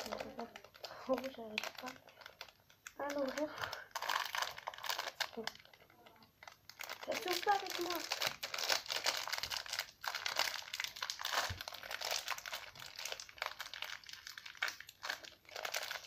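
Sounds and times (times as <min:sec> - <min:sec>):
plastic wrapper crinkling: 0:00.0 - 0:16.0.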